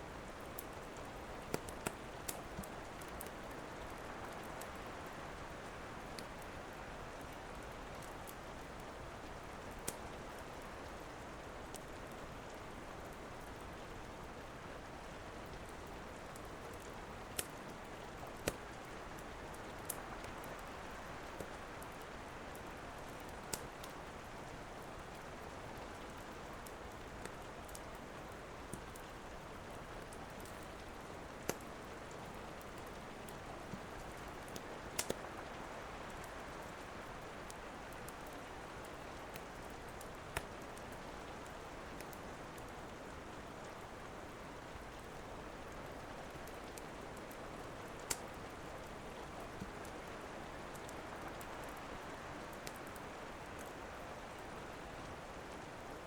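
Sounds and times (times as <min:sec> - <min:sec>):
wood fire crackling: 0:00.1 - 0:04.9, 0:05.5 - 0:55.9.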